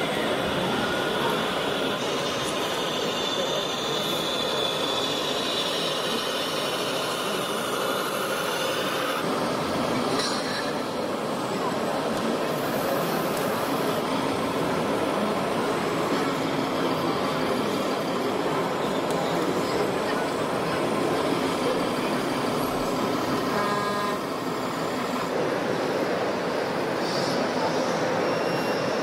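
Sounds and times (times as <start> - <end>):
model machines whirring with whine: 0.0 - 29.0.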